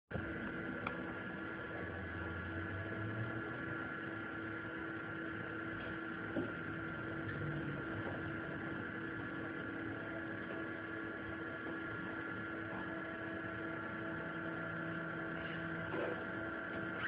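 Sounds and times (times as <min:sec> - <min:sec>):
electrical hum with hiss: 0:00.1 - 0:17.0.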